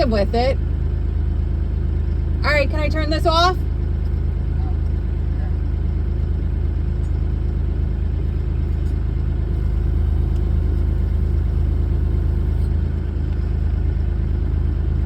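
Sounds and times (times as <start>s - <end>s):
mini excavator diesel engine running: 0.0s - 15.0s.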